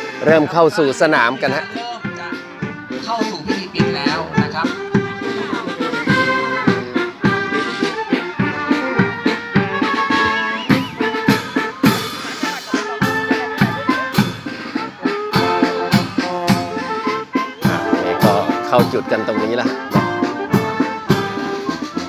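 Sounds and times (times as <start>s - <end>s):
bass drum and percussion beat: 0.0s - 22.0s
brass playing a march: 0.0s - 22.0s.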